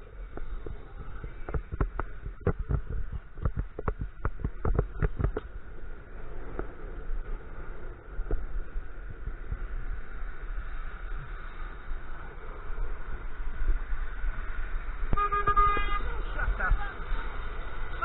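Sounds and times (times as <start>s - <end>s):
low rumble: 0.0s - 15.2s
wind noise: 0.0s - 18.0s.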